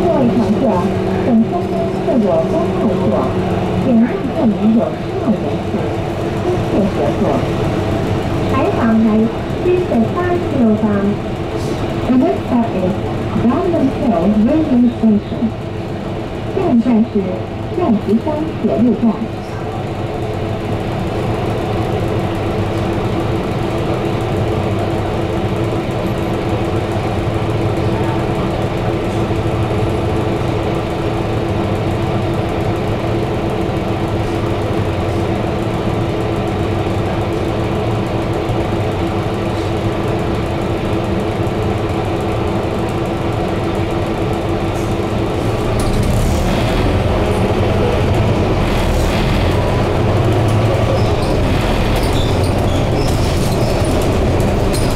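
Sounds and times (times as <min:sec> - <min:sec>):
bus diesel engine idling: 0:00.0 - 0:54.9.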